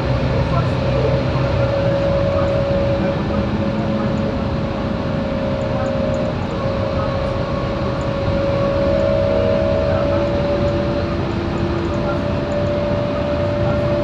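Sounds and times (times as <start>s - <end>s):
bus diesel engine running: 0.0s - 14.0s
high whine: 0.0s - 14.0s.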